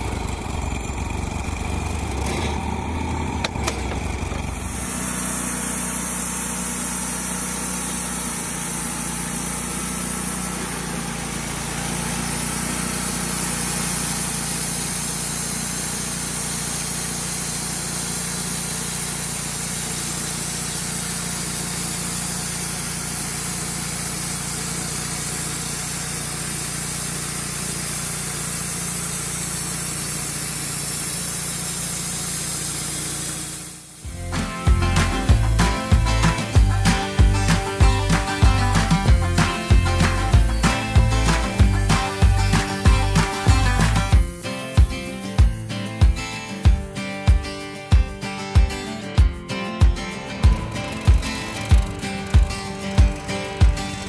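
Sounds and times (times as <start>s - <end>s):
sawmill engine running: 0.0s - 54.0s
hiss: 4.5s - 54.0s.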